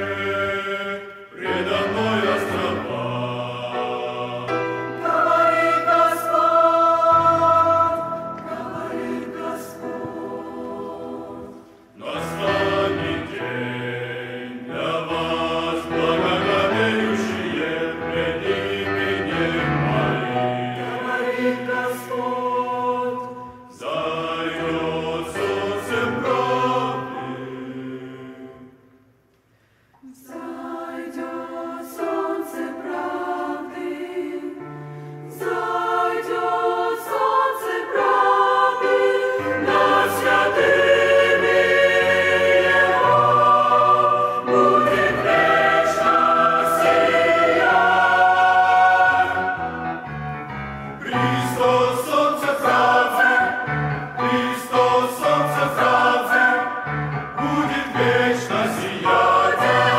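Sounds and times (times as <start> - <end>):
choir singing a hymn: 0.0 - 29.1, 30.0 - 59.9.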